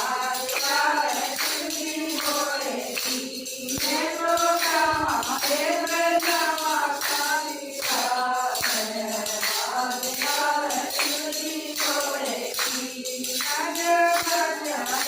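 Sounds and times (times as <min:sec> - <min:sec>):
devotional song singing: 0:00.0 - 0:15.0
tambourine jingling: 0:00.0 - 0:15.0.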